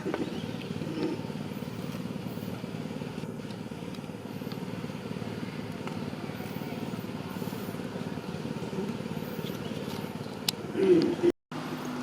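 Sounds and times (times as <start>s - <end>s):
small engine running: 0.0s - 10.8s.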